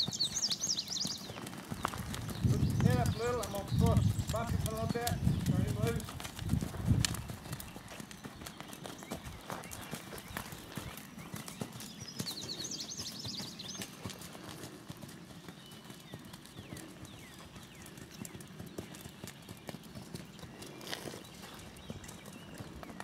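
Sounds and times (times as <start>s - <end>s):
horse hoofbeats on sand: 0.0s - 23.0s.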